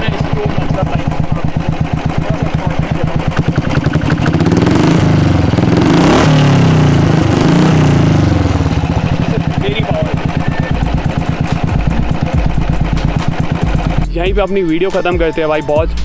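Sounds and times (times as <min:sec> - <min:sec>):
motorcycle engine revving: 0:00.0 - 0:14.4.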